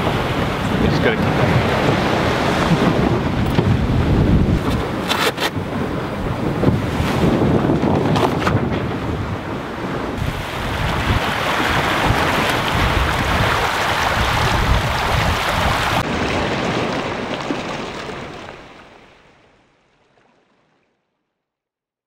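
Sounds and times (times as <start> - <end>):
wind buffeting microphone: 0.0 - 18.6
water rushing past hull: 0.0 - 20.8.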